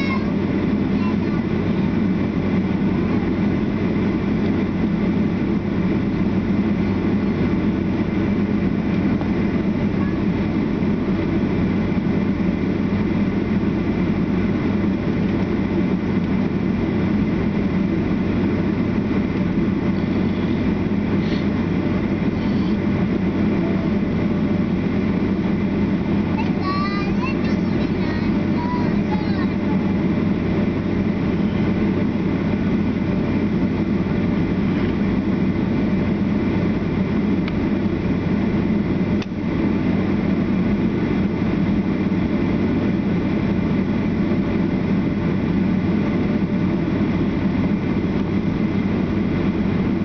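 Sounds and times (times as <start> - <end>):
aircraft engine drone in cabin: 0.0 - 50.0.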